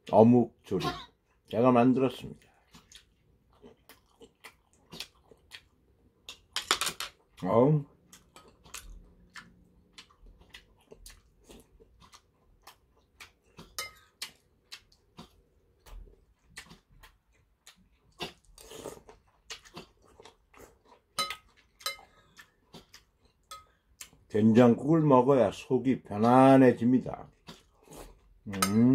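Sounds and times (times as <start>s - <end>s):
soft chewing: 0.0s - 28.9s.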